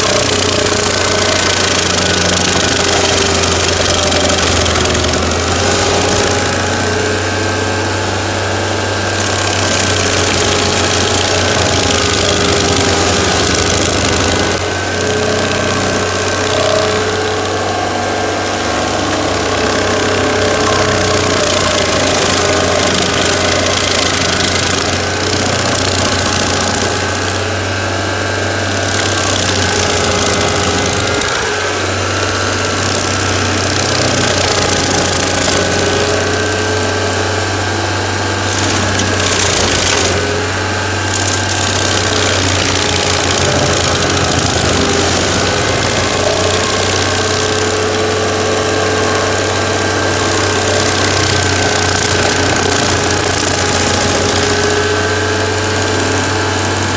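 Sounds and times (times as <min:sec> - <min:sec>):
cutter wheel grinding wood: 0:00.0 - 0:56.9
engine droning: 0:00.0 - 0:56.9.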